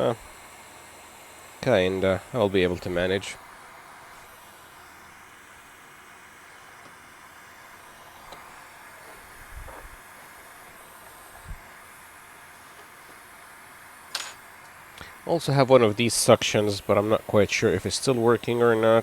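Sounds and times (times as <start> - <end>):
hot air blower hissing: 0.0 - 19.0.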